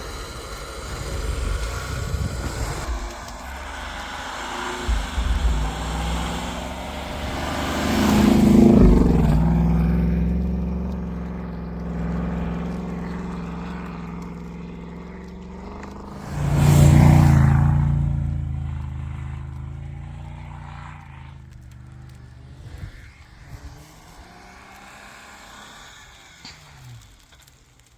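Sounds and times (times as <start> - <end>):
off-road engine revving: 0.0 - 27.9.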